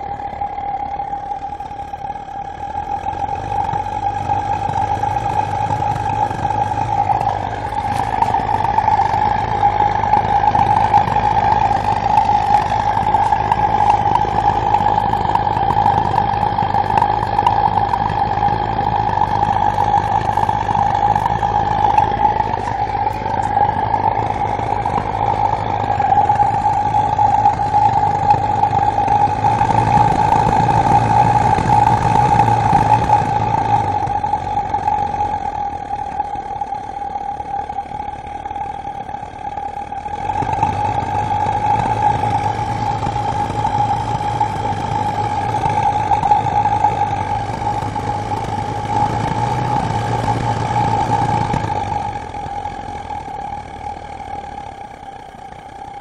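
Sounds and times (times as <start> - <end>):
gas burner roaring: 0.0 - 56.0.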